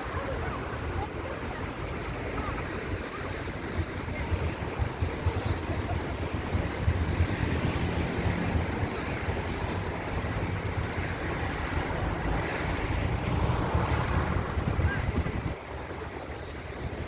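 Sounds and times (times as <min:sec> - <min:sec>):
sea surf: 0:00.0 - 0:17.0
wind buffeting microphone: 0:00.0 - 0:17.0.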